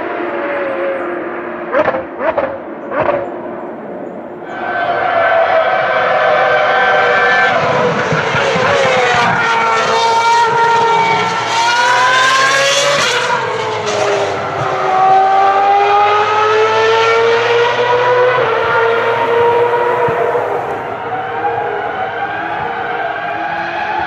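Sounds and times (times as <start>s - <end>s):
racing car engine revving: 0.4s - 3.5s, 4.5s - 24.0s.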